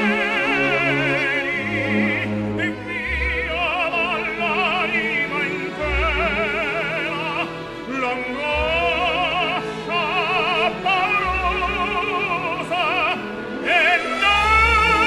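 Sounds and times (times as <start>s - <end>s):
high voice singing opera: 0.0s - 15.0s.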